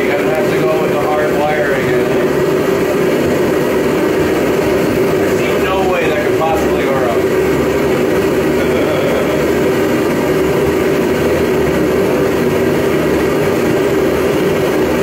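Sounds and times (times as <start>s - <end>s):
forge roaring: 0.0s - 15.0s.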